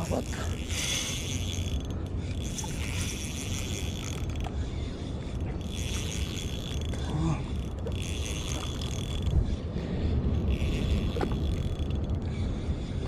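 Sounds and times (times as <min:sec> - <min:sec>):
fishing reel whirring: 0:00.0 - 0:13.0
steady low rumble: 0:00.0 - 0:13.0.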